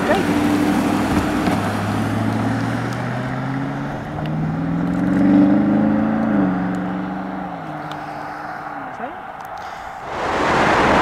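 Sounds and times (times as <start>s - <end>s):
suv engine accelerating: 0.0s - 11.0s.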